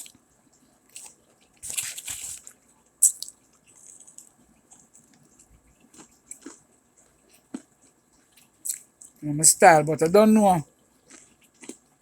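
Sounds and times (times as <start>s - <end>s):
wet mouth chewing sounds: 0.0s - 9.2s, 10.6s - 12.0s.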